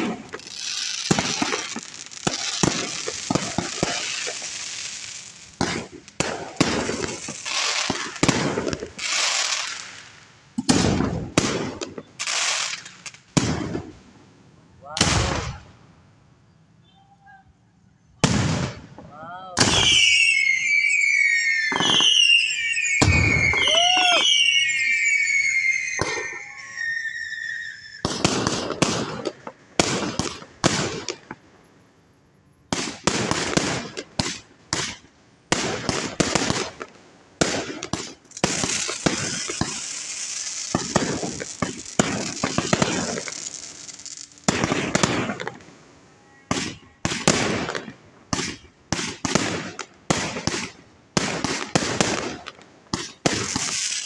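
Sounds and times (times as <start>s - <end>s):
fireworks shells bursting: 0.0s - 14.0s, 18.1s - 31.4s, 32.7s - 54.0s
fireworks whistling: 0.0s - 31.4s, 32.6s - 54.0s
dense fireworks hiss: 0.0s - 54.0s.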